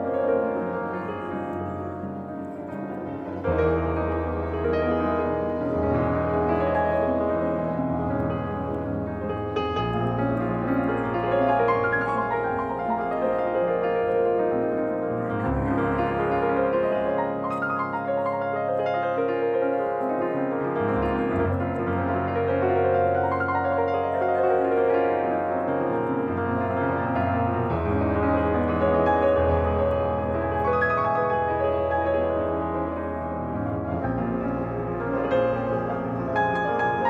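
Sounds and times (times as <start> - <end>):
instrumental piano music: 0.0 - 37.0.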